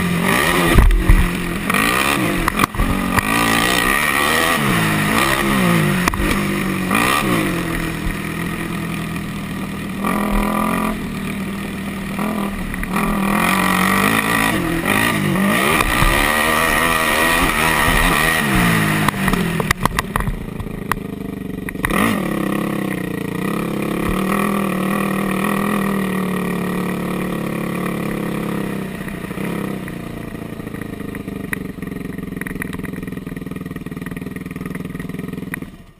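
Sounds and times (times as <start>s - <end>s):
quad engine revving: 0.0s - 35.9s.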